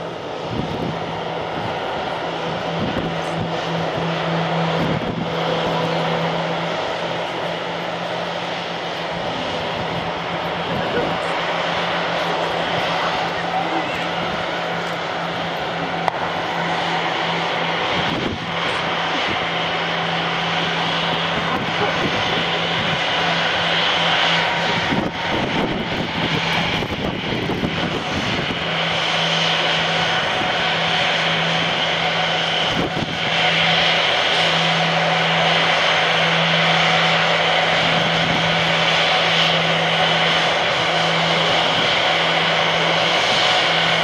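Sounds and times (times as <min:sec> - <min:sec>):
jet engines whining: 0:00.0 - 0:44.0.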